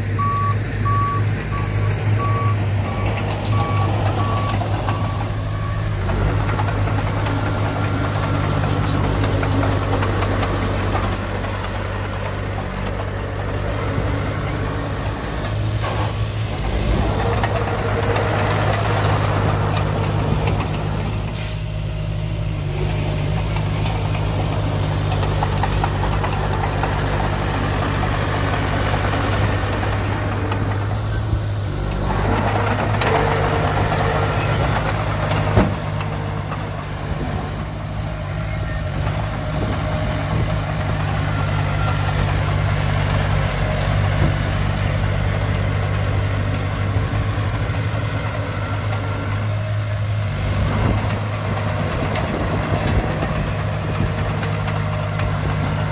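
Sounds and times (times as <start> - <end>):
heavy diesel machinery running: 0.0 - 55.9.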